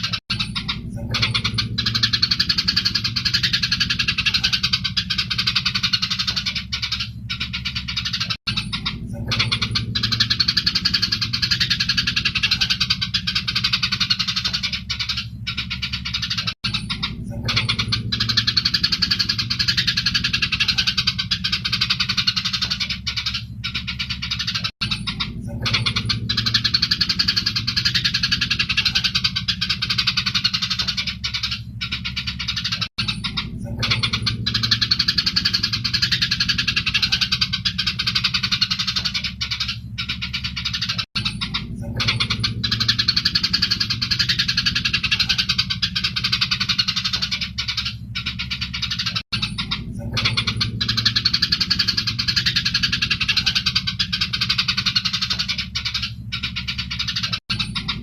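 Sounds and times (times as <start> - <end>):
low steady hum: 0.0 - 58.0
sparrows chattering: 0.0 - 58.0.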